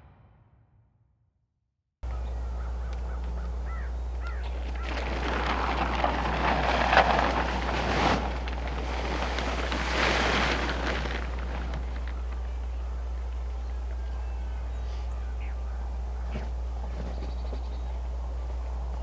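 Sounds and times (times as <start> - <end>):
steady low hum: 2.0 - 19.0.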